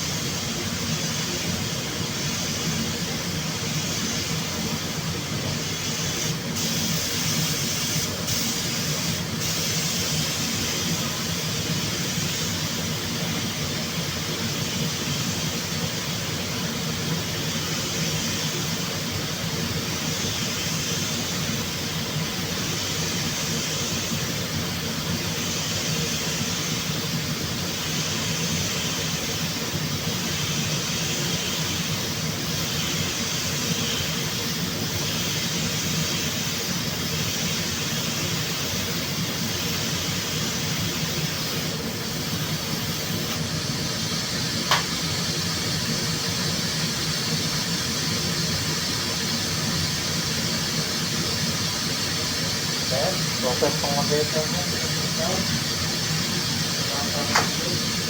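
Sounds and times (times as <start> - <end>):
mechanical hum with hiss: 0.0 - 58.0.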